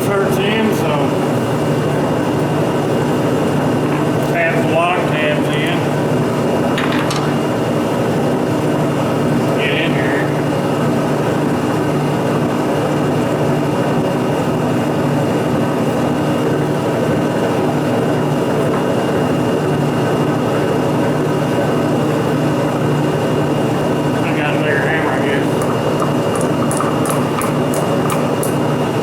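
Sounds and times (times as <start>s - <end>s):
milling machine motor hum: 0.0s - 29.0s.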